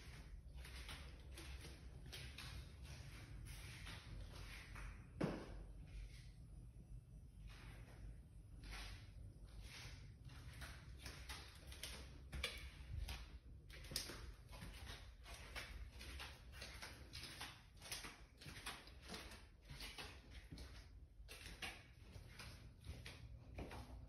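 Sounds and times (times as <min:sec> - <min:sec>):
footsteps on hard floor: 0:00.0 - 0:06.2, 0:07.5 - 0:24.0.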